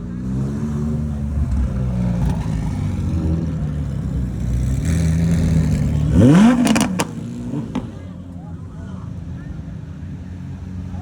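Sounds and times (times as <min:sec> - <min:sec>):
car engine rumbling and revving: 0:00.0 - 0:11.0.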